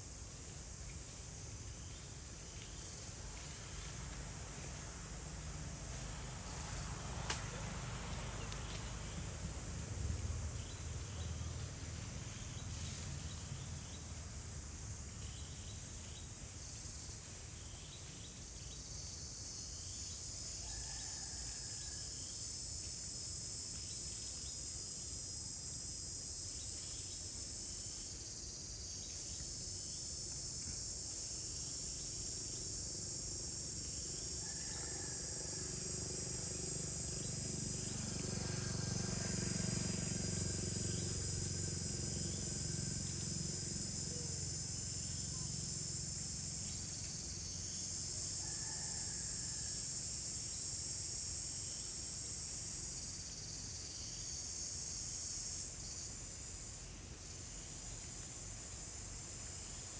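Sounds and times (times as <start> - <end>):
insects shrill drone: 5.2 - 59.9.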